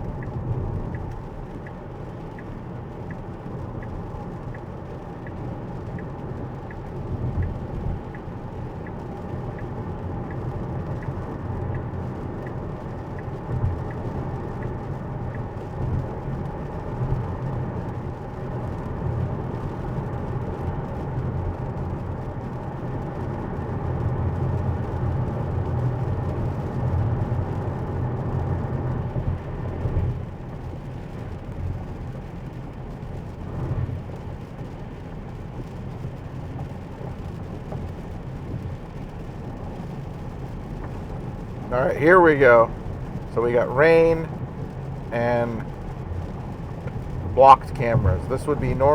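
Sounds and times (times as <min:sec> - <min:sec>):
road and tyre rumble: 0:00.0 - 0:48.9.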